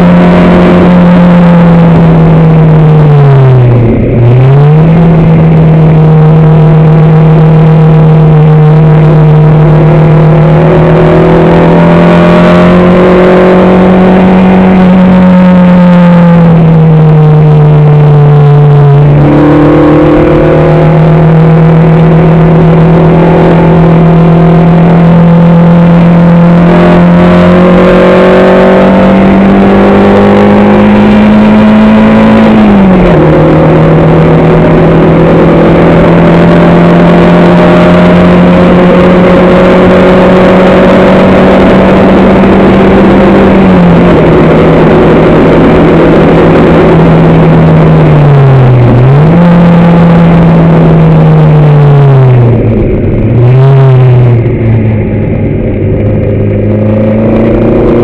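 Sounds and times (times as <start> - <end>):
racing car engine at high revs: 0.0 - 58.0
wind and road noise: 0.0 - 58.0.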